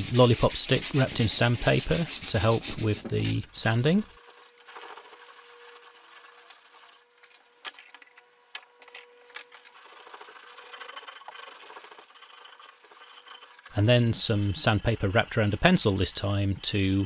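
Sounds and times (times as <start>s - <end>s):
sandpaper rubbing wood: 0.0s - 7.1s, 9.7s - 17.0s.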